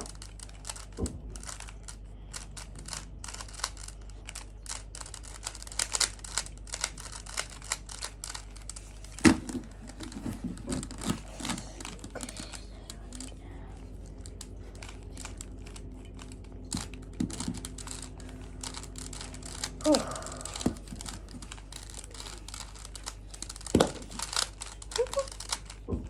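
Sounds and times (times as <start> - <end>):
plastic puzzle cube clicking: 0.0 - 26.0.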